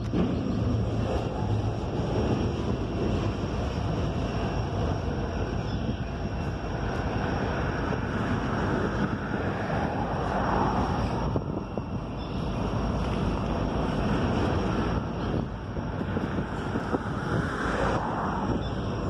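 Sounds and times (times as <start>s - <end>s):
train wheels rumbling on rails: 0.0s - 19.0s
wind on microphone: 0.0s - 19.0s.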